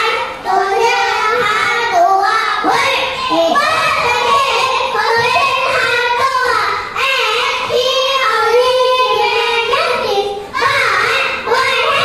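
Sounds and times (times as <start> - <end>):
children singing in unison: 0.0 - 12.0.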